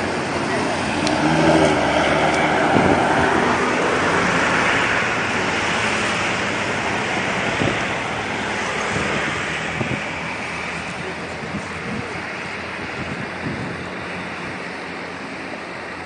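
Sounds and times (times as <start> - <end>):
road traffic rushing past: 0.0 - 16.0.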